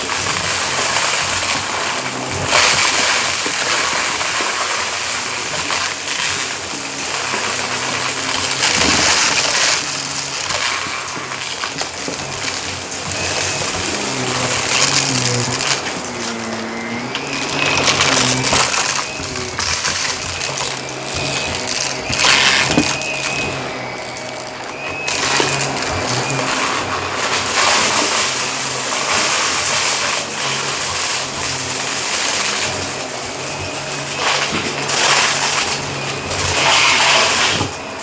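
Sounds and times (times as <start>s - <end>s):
debris crunching and clinking: 0.0s - 38.0s
vacuum cleaner on carpet: 0.0s - 38.0s.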